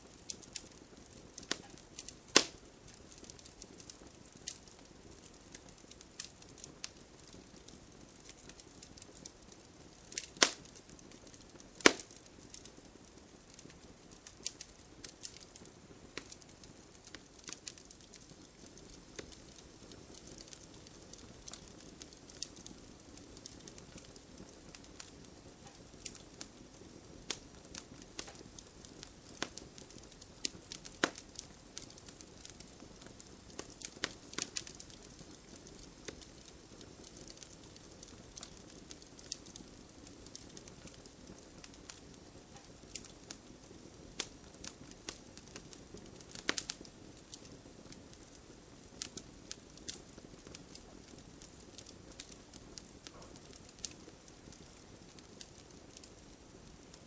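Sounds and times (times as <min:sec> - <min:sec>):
gentle rain: 0:00.0 - 0:57.0
wood fire crackling and popping: 0:00.0 - 0:57.0.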